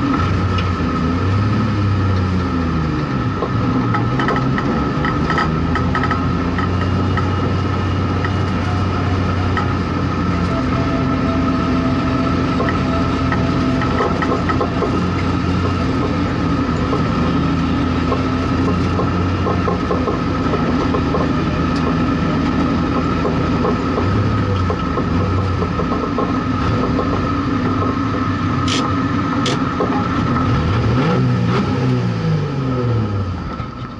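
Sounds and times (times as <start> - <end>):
high whine: 0.0 - 33.9
race car engine at low revs: 0.0 - 33.9.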